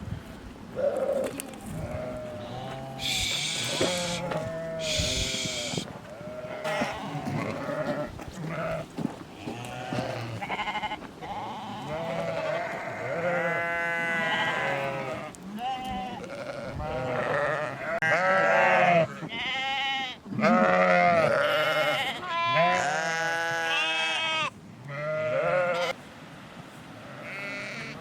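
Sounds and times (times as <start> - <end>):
sheep and goats bleating: 0.8 - 26.0, 27.0 - 28.0.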